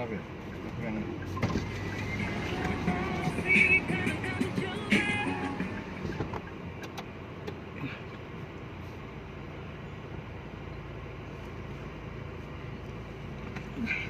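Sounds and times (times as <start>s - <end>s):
vehicle engine and tyre rumble: 0.0s - 14.0s.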